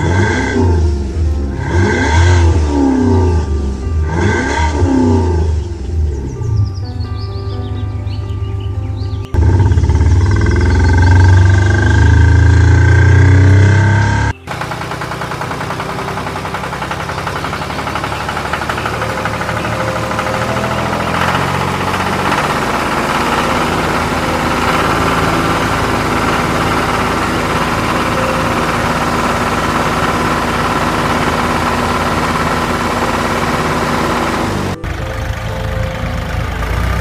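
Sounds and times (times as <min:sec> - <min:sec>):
engine running steadily: 0:00.0 - 0:06.5, 0:09.3 - 0:37.0.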